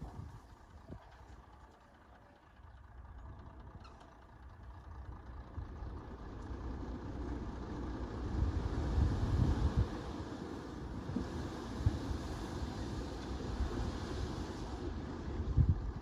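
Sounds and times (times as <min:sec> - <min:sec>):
heavy machinery diesel engine rumble: 0:00.0 - 0:16.0.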